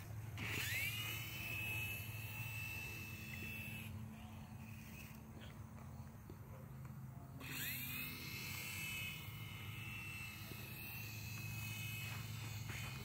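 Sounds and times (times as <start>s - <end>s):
toy helicopter motor whine: 0.0s - 13.0s.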